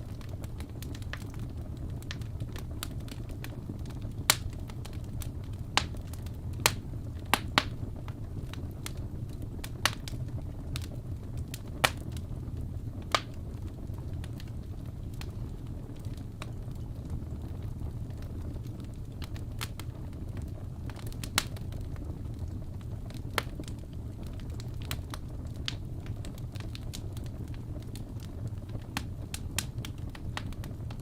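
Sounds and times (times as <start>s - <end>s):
burning logs crackling: 0.0s - 31.0s
fire flames rumbling: 0.0s - 31.0s
sharp pops from fire: 0.1s - 12.3s, 13.0s - 13.6s, 18.5s - 31.0s.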